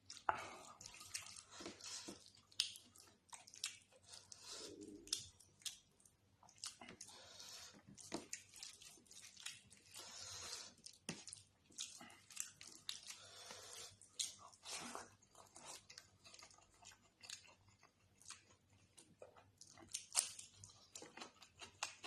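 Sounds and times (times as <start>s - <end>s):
wet chewing and lip smacking: 0.0s - 22.0s.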